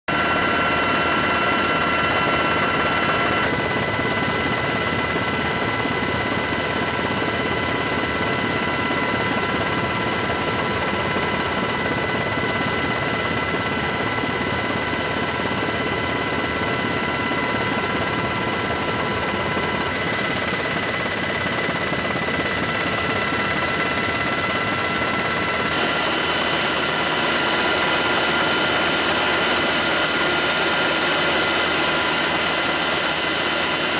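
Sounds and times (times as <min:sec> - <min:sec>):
helicopter rotor and engine: 0:00.1 - 0:33.9.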